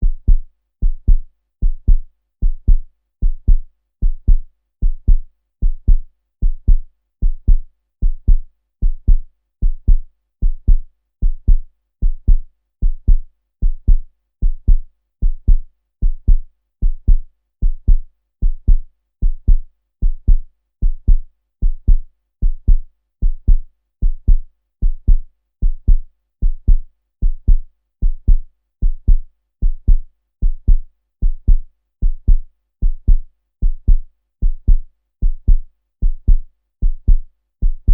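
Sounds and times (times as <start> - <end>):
heartbeat thumps: 0.0 - 37.9.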